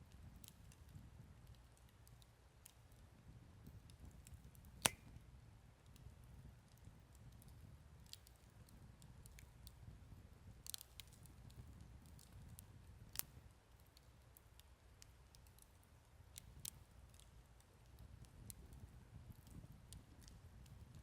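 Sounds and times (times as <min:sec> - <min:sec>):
campfire crackling: 0:00.1 - 0:05.2, 0:05.8 - 0:21.0.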